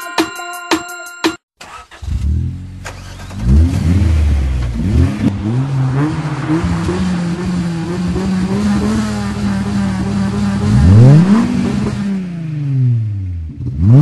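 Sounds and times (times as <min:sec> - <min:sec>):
car engine revving: 0:01.6 - 0:14.0.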